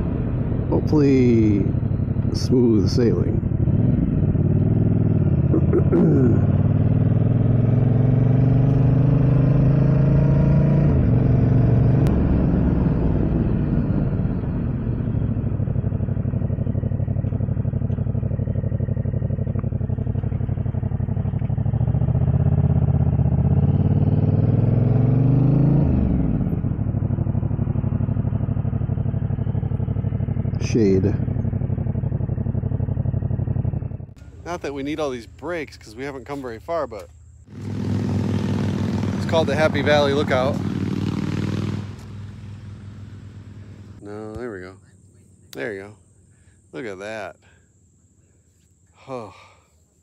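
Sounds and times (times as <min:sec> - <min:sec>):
wind and road noise: 0:00.0 - 0:44.8
motorcycle engine accelerating: 0:00.0 - 0:45.9, 0:49.0 - 0:49.3.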